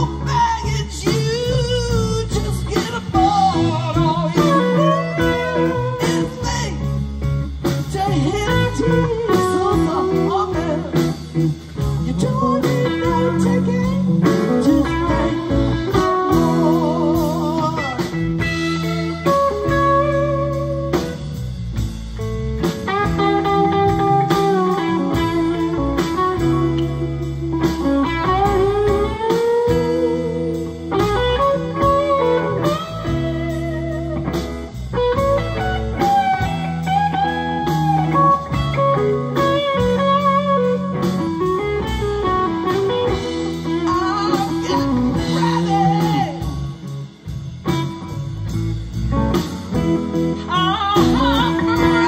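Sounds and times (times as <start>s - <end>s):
electric guitar lead lines: 0.0s - 52.0s
live blues band: 0.0s - 52.0s.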